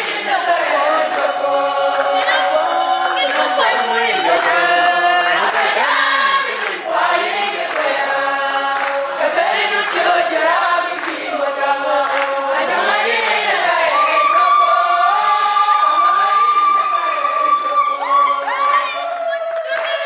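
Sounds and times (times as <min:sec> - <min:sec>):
women singing unaccompanied: 0:00.0 - 0:16.8, 0:17.8 - 0:20.0.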